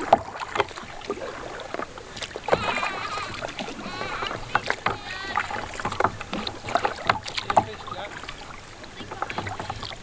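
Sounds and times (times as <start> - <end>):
paddles splashing in water: 0.0 - 10.0
water lapping against boat hull: 0.0 - 10.0.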